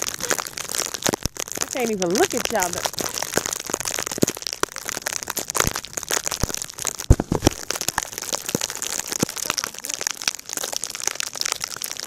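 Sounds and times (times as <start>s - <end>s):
snow crunching: 0.0s - 9.7s.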